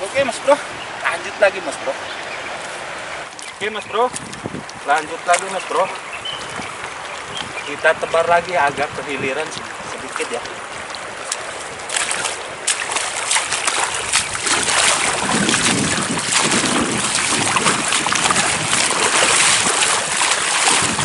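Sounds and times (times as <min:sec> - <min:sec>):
river water splashing and rushing: 0:00.0 - 0:21.0.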